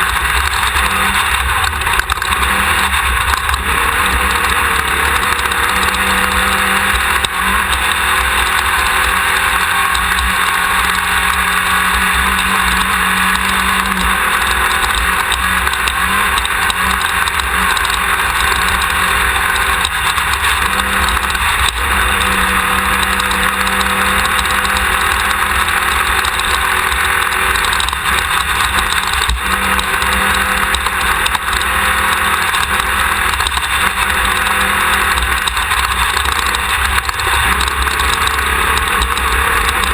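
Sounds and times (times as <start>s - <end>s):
race car engine under load: 0.0s - 39.9s.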